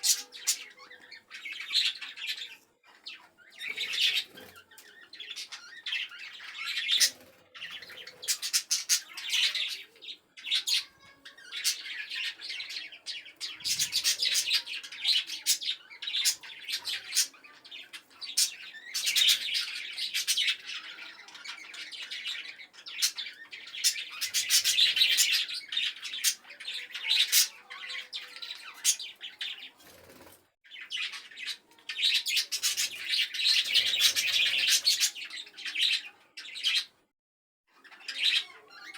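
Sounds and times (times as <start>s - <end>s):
budgerigars chattering: 0.0s - 36.9s.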